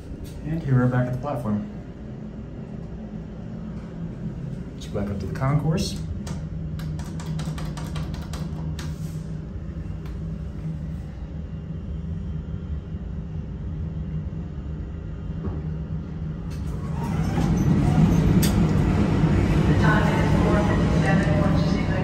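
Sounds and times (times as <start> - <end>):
elevator hum and rumble: 0.0 - 22.0.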